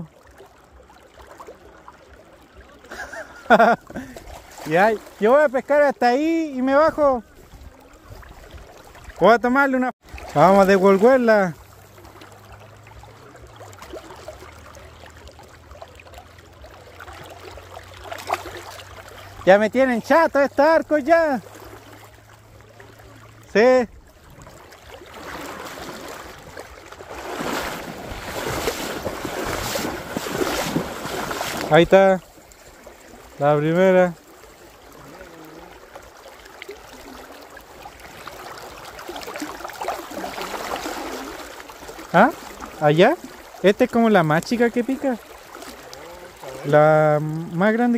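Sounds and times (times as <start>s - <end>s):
river water running: 0.0s - 47.9s
water gurgles and ticks: 0.0s - 47.9s.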